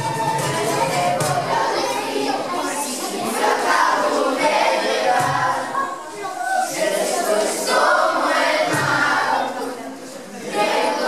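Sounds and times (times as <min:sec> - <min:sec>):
children's choir singing: 0:00.0 - 0:11.0.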